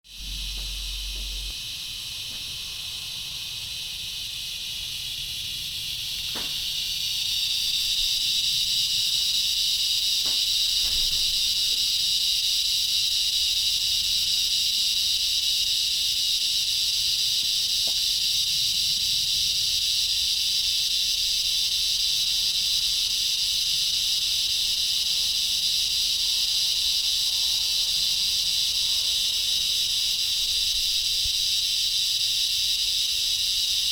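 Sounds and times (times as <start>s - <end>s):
insect chorus buzzing: 0.0s - 33.9s.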